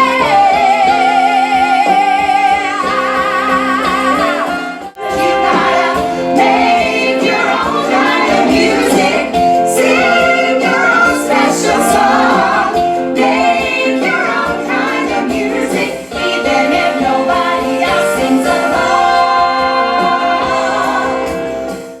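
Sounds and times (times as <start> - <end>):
women singing pop song: 0.0 - 21.8
band accompaniment: 0.0 - 22.0.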